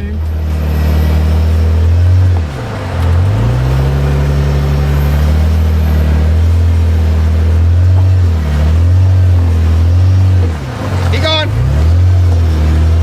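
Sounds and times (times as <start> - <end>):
car engine under load: 0.0 - 13.0.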